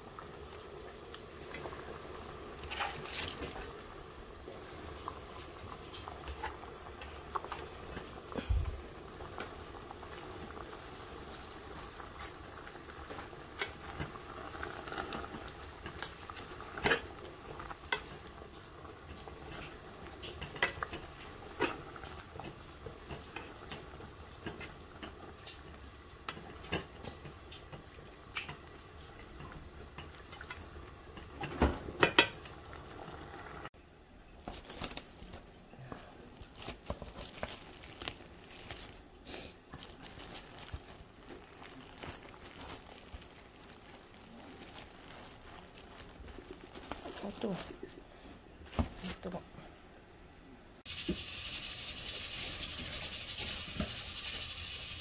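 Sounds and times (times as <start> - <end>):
faint sizzle: 0.0 - 55.0.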